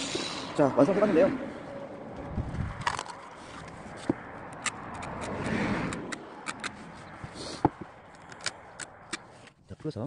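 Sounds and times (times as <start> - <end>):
passing vehicle: 0.0 - 9.6.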